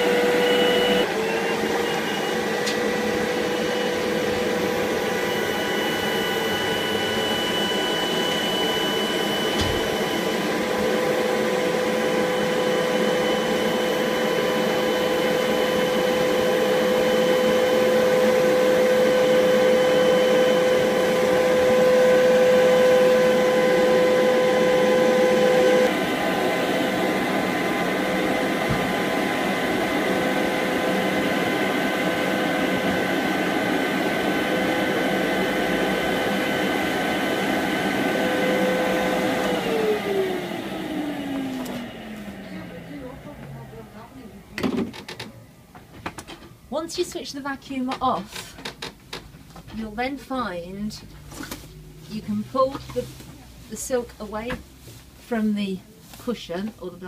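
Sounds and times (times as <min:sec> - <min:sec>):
vacuum cleaner motor whine: 0:00.0 - 0:46.3.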